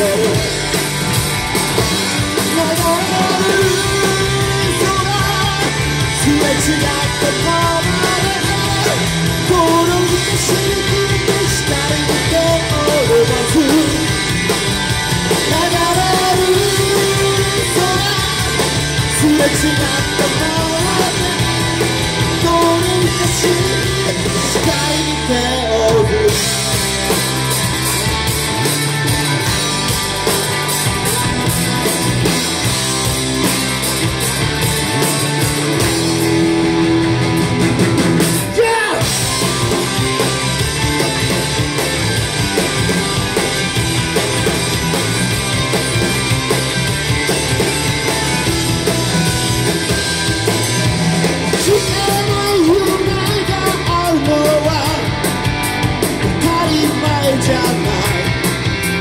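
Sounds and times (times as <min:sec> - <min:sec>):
drum kit: 0:00.0 - 0:59.0
electric bass: 0:00.0 - 0:59.0
electric guitars: 0:00.0 - 0:59.0.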